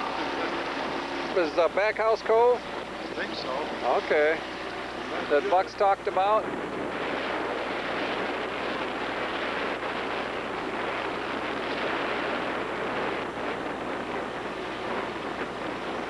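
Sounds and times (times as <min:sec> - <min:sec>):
boat motor running: 0:00.0 - 0:16.0
rush of wind and water: 0:00.0 - 0:16.0
wind buffeting microphone: 0:00.0 - 0:16.0.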